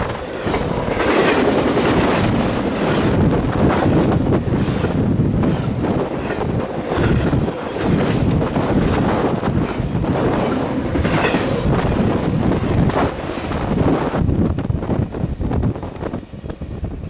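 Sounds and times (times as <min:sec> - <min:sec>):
train wheels on rails: 0:00.0 - 0:17.0
wind buffeting microphone: 0:00.0 - 0:17.0.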